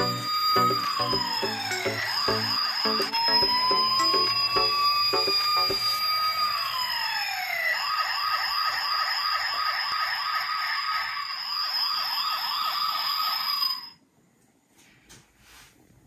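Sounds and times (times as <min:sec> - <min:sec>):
electronic siren wailing and yelping: 0:00.0 - 0:14.0.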